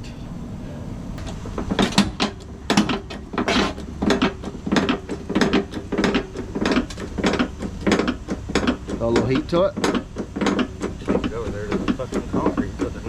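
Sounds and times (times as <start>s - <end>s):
hydraulic hand pump clanking: 1.2s - 13.0s.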